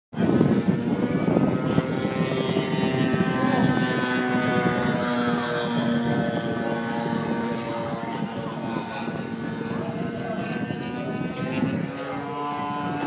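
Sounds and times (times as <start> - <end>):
model airplane engines droning: 0.2 - 13.0.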